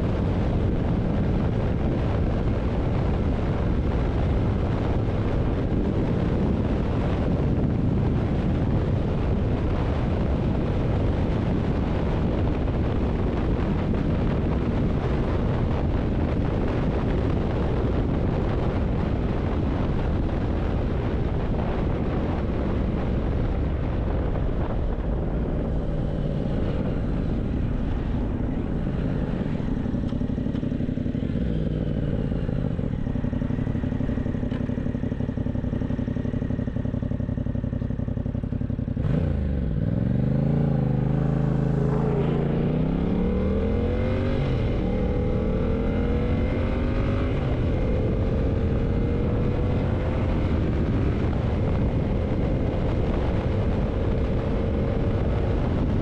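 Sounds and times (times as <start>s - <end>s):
motorcycle engine running: 0.0s - 56.0s
wind on microphone: 0.0s - 56.0s.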